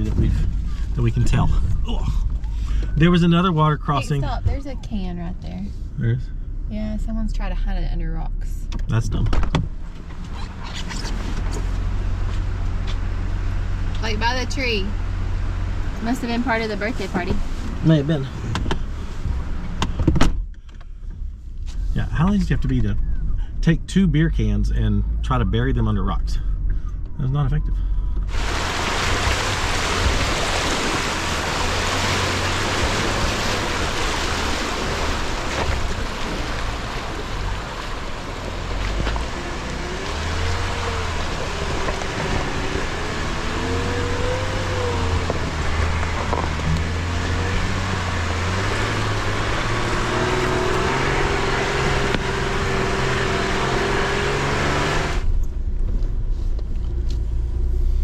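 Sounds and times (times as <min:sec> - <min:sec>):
low engine rumble: 0:00.0 - 0:58.0.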